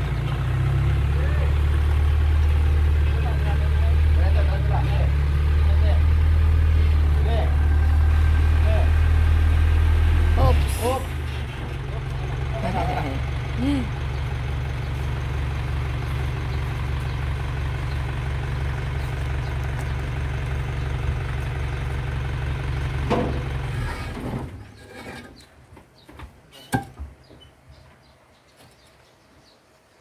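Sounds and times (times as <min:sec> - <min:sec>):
truck engine idling: 0:00.0 - 0:24.8.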